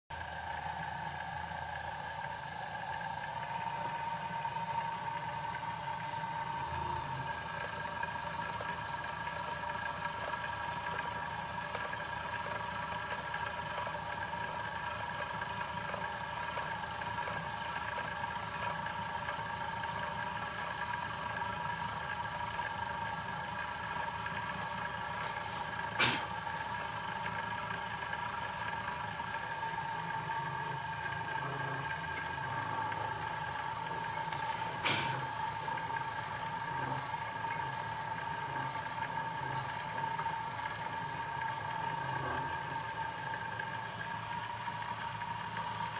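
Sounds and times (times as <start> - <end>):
milling machine spindle whine: 0.1 - 45.9.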